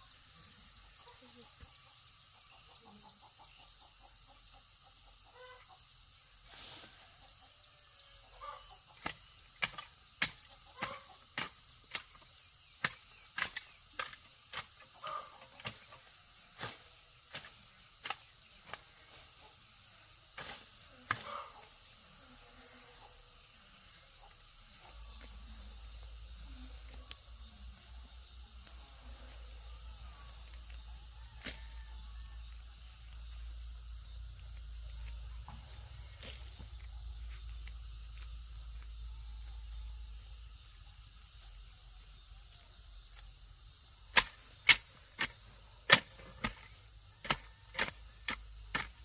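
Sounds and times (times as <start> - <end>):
insects chorus: 0.0 - 49.0.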